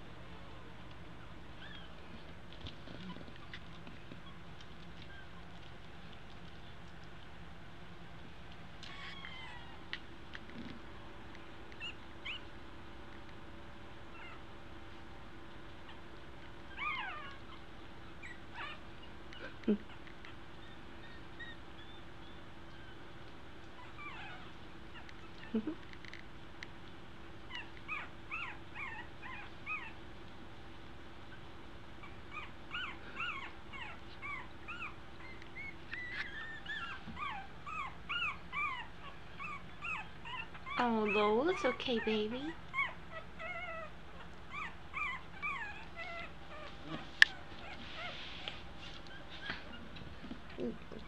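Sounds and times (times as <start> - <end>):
puppies squeaking and whining: 0.6 - 6.1, 8.8 - 10.7, 11.8 - 12.6, 14.1 - 14.5, 15.8 - 26.0, 27.4 - 30.0, 31.3 - 51.0.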